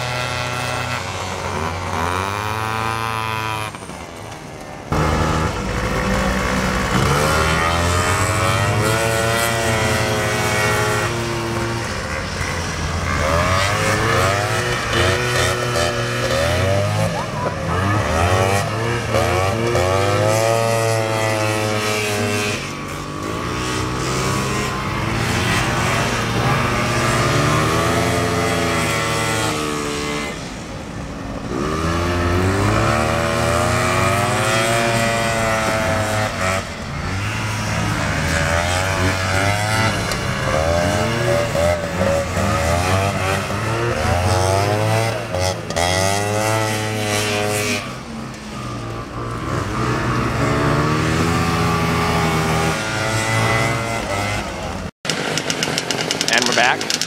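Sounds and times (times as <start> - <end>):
snowmobile engines revving: 0.0 - 57.0.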